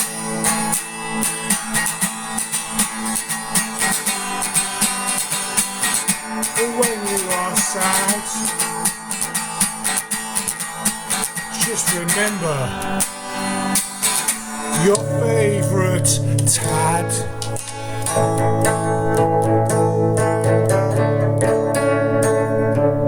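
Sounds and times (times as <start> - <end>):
guitar strummed rapidly: 0.0 - 23.0.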